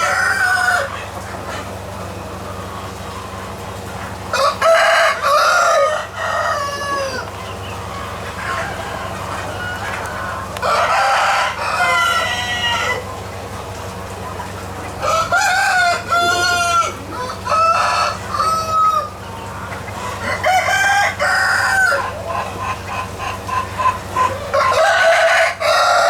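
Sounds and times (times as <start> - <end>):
roosters crowing: 0.0 - 1.8, 4.1 - 26.0
chickens clucking: 0.0 - 26.0.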